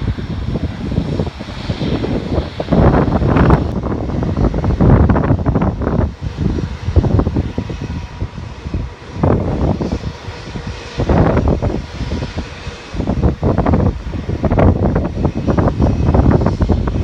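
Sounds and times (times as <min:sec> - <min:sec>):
jet engines running: 0:00.0 - 0:17.0
wind buffeting microphone: 0:00.0 - 0:17.0.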